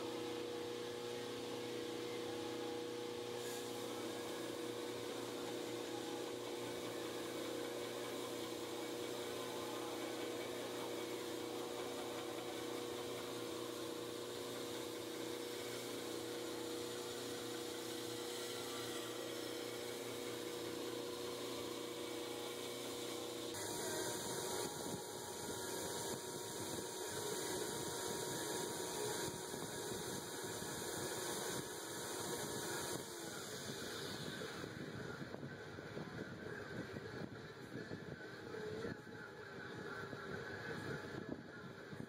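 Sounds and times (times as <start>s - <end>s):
belt grinder motor hum: 0.0s - 34.8s.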